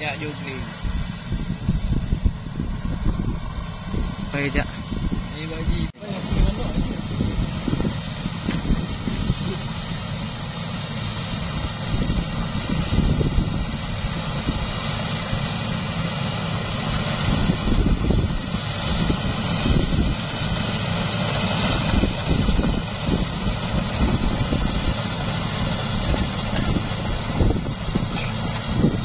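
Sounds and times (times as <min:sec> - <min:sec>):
combine harvester engine drone: 0:00.0 - 0:29.0
wind buffeting the microphone: 0:00.7 - 0:09.9, 0:11.1 - 0:15.5, 0:16.8 - 0:29.0.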